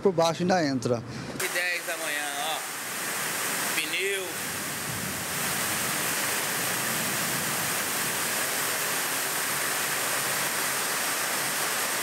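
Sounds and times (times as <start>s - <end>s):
floodwater rushing: 1.4s - 12.0s
heavy rain: 1.4s - 12.0s.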